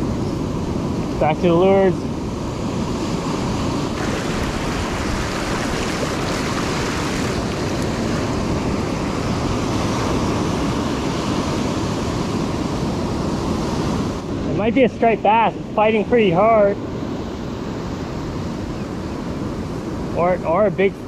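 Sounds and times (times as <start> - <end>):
ocean surf breaking: 0.0 - 21.0
wind on microphone: 0.0 - 21.0.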